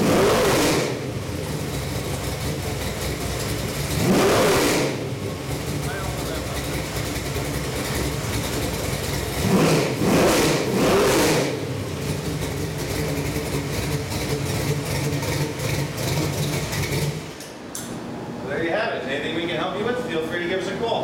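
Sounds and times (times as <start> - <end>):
engine revving and idling: 0.0 - 17.5.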